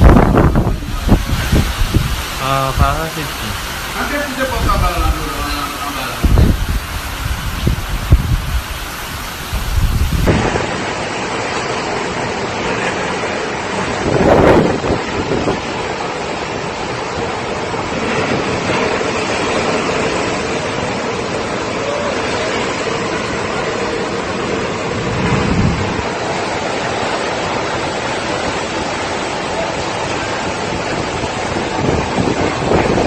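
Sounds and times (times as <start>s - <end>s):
hurricane wind and water rushing: 0.0s - 33.0s.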